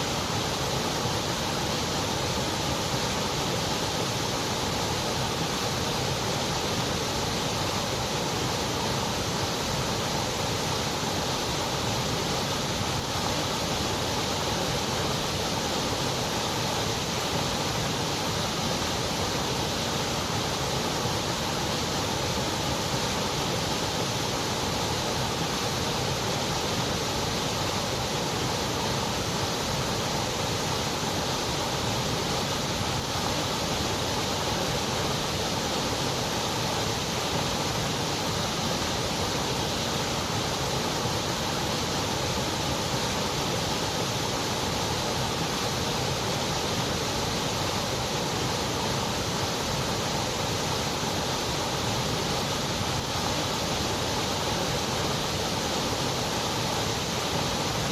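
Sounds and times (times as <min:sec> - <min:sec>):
steady white noise: 0:00.0 - 0:57.9.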